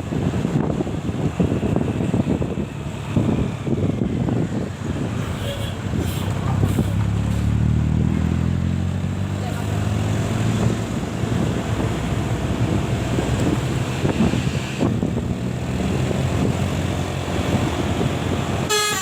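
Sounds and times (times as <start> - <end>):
wind buffeting microphone: 0.0 - 8.3, 9.1 - 18.7
passing vehicle engine: 0.0 - 18.8
roadside traffic noise: 0.0 - 19.0.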